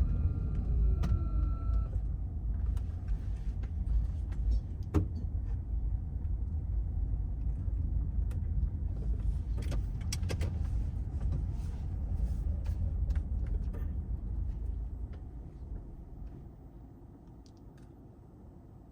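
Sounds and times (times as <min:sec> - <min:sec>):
car road and engine rumble: 0:00.0 - 0:18.9.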